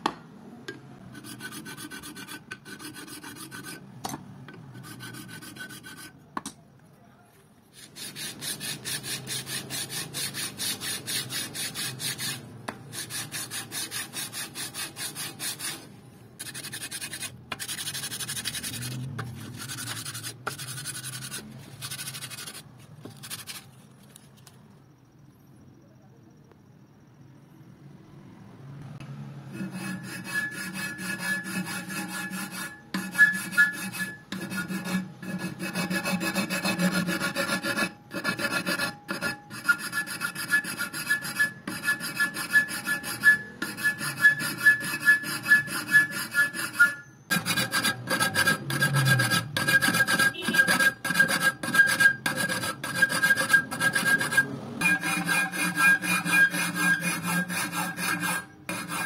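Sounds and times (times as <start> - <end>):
metal file rasping: 1.1 - 3.8, 4.5 - 6.2, 7.7 - 23.6, 29.5 - 59.0.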